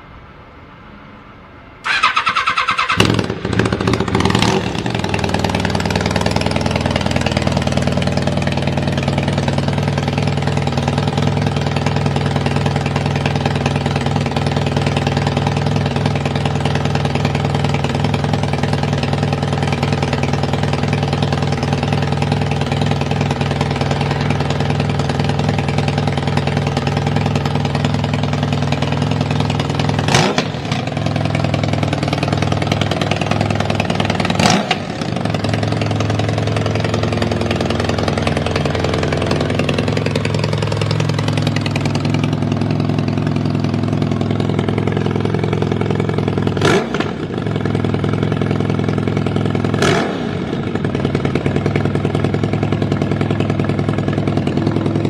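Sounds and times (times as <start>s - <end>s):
motorcycle engine idling: 1.8s - 55.0s.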